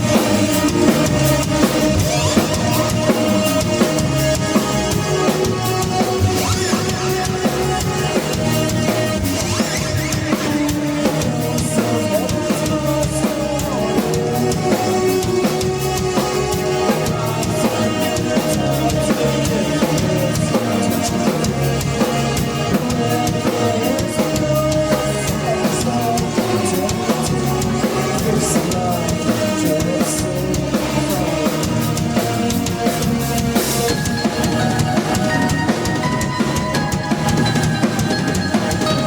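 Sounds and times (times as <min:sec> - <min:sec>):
bass: 0:00.0 - 0:39.0
drum kit beat: 0:00.0 - 0:39.0
sustained chords: 0:00.0 - 0:39.0.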